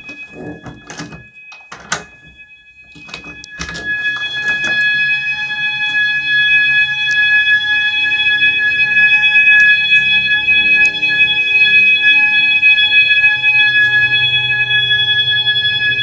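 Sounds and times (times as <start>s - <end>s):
fire alarm high-pitched tone: 0.0s - 16.0s.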